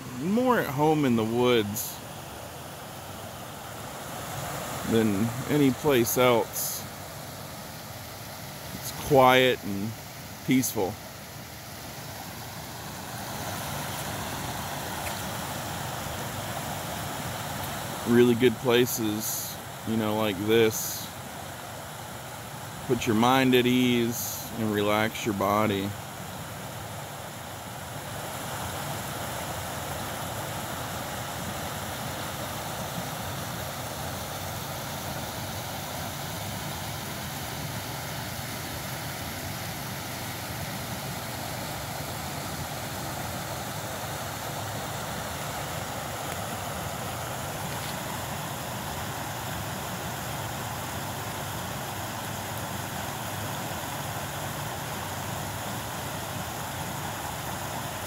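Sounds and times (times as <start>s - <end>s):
water rushing over rocks: 0.0s - 21.8s, 28.0s - 58.0s.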